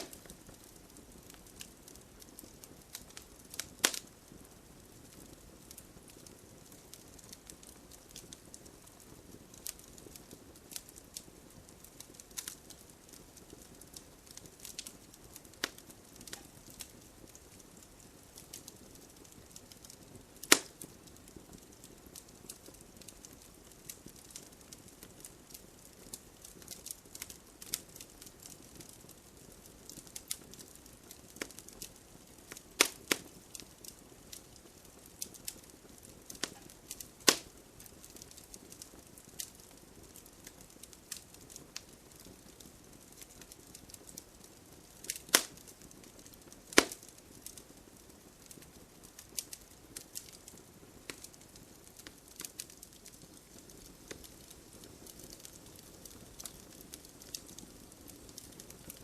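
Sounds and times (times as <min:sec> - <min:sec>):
low steady fire hiss: 0:00.0 - 0:59.0
wood fire pops and snaps: 0:00.0 - 0:59.0.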